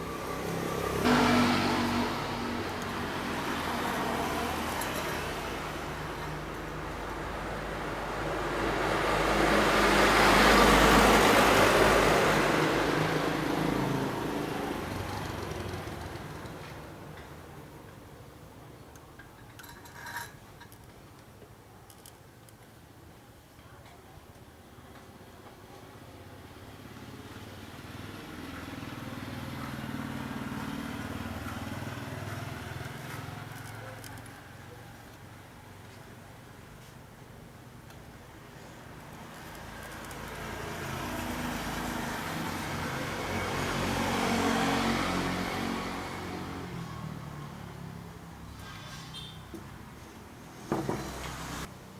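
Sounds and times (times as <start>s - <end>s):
road vehicle passing by: 0.0s - 17.5s, 25.9s - 37.0s, 38.2s - 51.9s.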